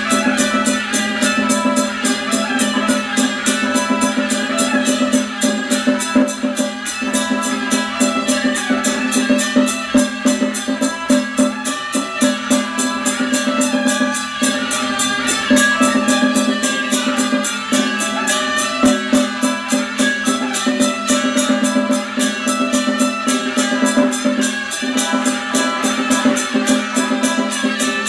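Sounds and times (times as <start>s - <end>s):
cymbals and gongs beating: 0.0s - 28.0s.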